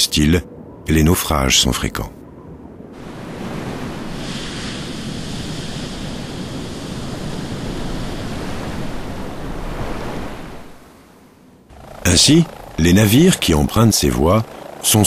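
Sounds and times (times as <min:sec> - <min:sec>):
sea: 0:00.0 - 0:15.0
wind rushing: 0:02.2 - 0:15.0.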